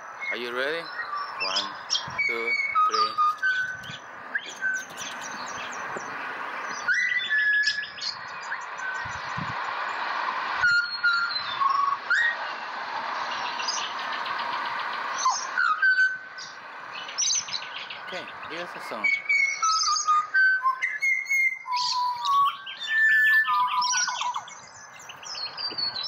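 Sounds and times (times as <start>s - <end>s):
bird singing fluty whistled notes: 0.2s - 10.0s, 10.6s - 12.6s, 13.2s - 26.0s.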